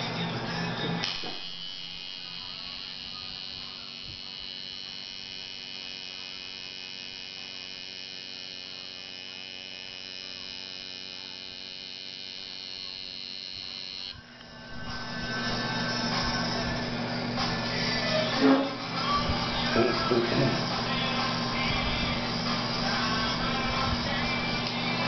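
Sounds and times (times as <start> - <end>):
tattoo machine buzzing: 0.0 - 25.0.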